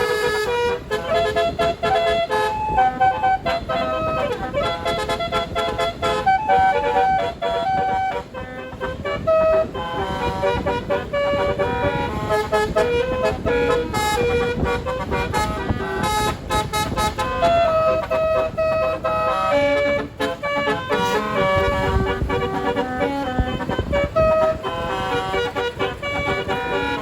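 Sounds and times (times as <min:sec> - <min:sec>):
air horn playing a tune: 0:00.0 - 0:27.0.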